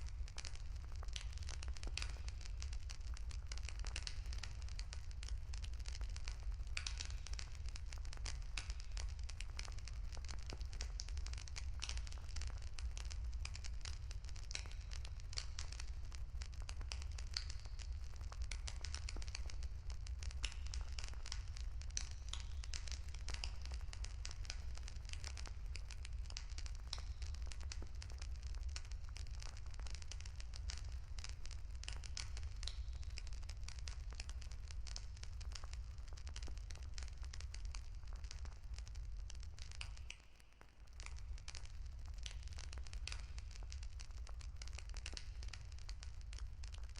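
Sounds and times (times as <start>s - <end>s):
campfire crackling: 0.0s - 46.9s.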